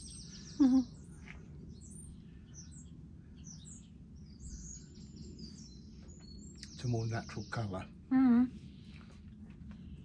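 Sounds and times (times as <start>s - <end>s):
low steady hum: 0.0s - 10.0s
small birds chirping: 0.0s - 10.0s.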